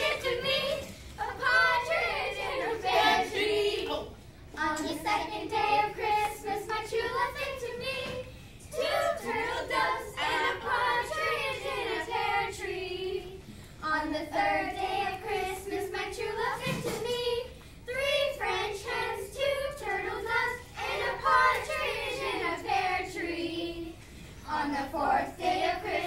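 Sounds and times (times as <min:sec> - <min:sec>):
children singing carol: 0:00.0 - 0:26.0.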